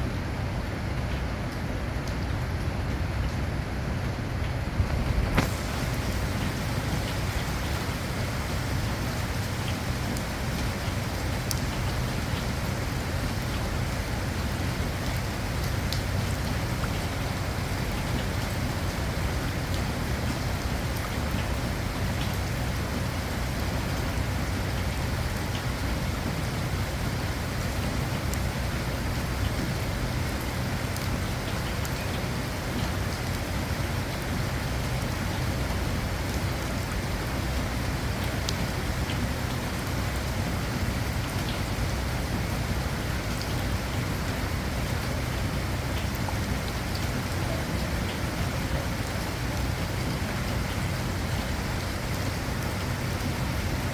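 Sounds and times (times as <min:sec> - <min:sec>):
steady rain falling: 0:00.0 - 0:53.9
raindrops ticking on a surface: 0:00.1 - 0:53.9.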